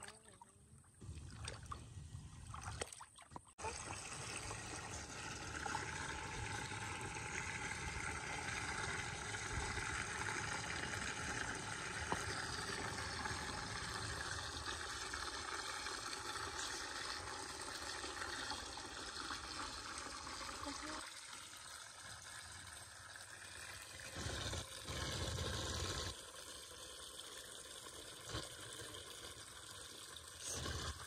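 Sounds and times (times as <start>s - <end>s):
water pouring from hose into basin: 0.0s - 31.0s.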